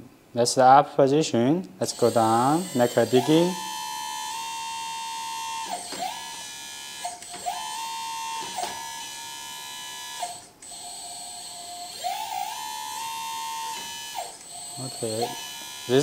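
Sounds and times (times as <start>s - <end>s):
hydraulic pump electric whine: 1.9s - 16.0s.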